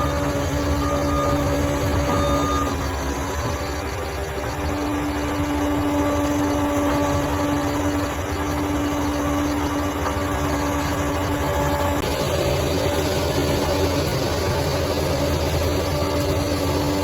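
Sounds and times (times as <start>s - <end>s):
bulldozer diesel engine rumbling: 0.0s - 17.0s
constant whine: 0.0s - 17.0s.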